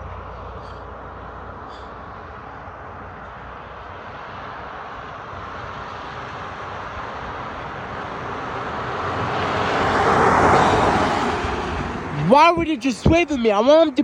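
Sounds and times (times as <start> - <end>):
truck passing by: 0.0 - 14.0.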